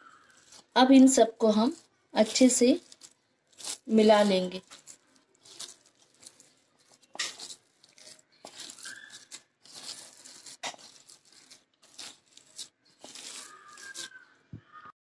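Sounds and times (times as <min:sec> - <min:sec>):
hand squeezing crumbly mixture: 0:00.0 - 0:00.8, 0:01.5 - 0:14.4.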